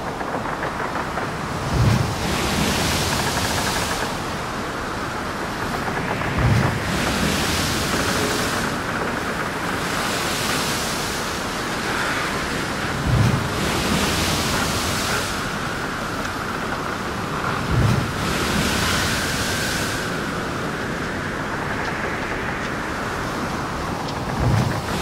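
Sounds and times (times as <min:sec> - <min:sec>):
sea waves: 0:00.0 - 0:25.0
wind: 0:00.0 - 0:25.0.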